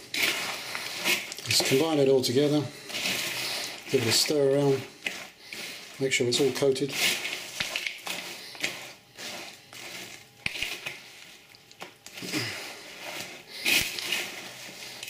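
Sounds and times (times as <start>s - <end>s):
spatula scraping glass bowl: 0.0s - 11.4s, 12.1s - 15.0s.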